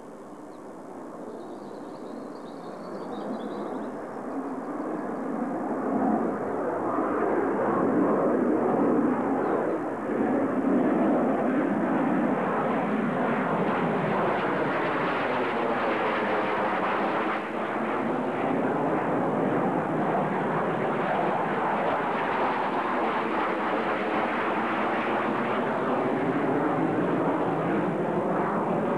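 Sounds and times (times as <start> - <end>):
jet flying over: 0.0 - 28.9.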